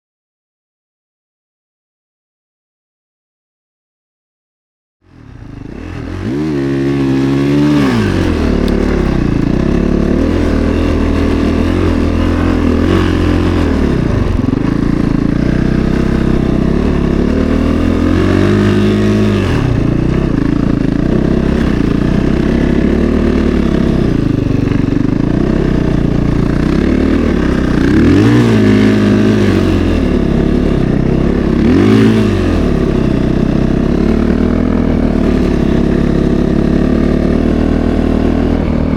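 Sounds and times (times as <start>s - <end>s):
engine revving under load: 5.1s - 38.9s.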